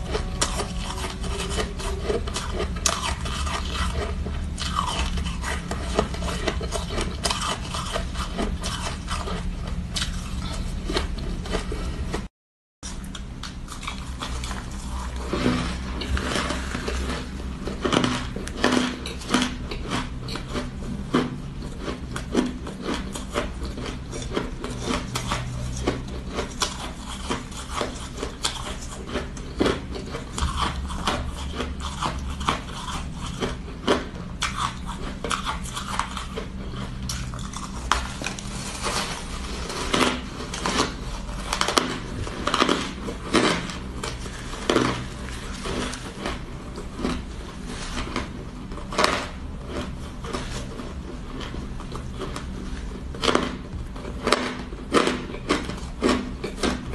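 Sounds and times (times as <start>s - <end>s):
chewing crunchy ice: 0.0s - 56.9s.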